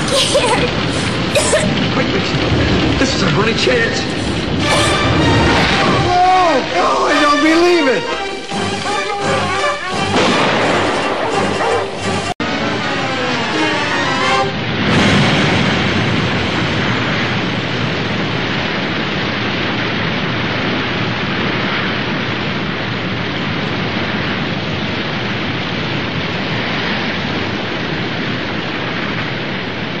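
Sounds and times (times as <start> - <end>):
falling water roar: 0.0 - 30.0.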